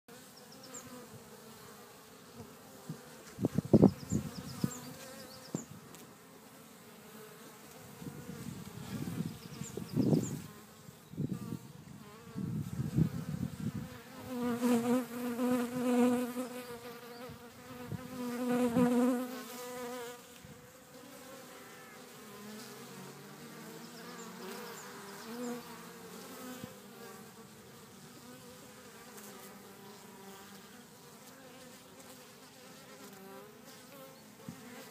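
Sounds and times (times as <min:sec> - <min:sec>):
bees flying past: 0:00.1 - 0:34.9
honeybees buzzing: 0:00.1 - 0:34.9.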